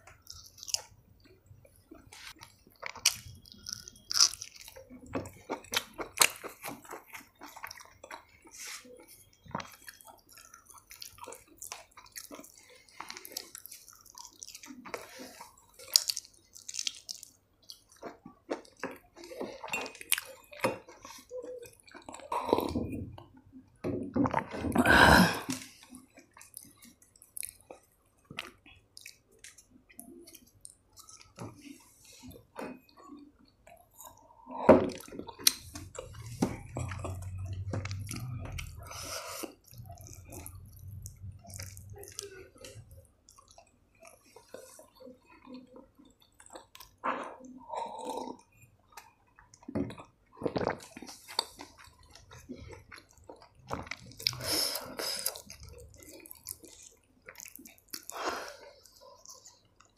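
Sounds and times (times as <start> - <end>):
wet chewing and lip-smacking: 0.0 - 24.6, 25.4 - 59.9.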